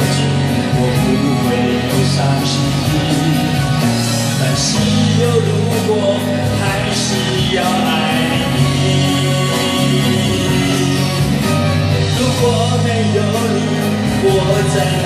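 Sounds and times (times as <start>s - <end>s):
man singing into microphone: 0.0s - 15.0s
pop ballad backing track: 0.0s - 15.0s.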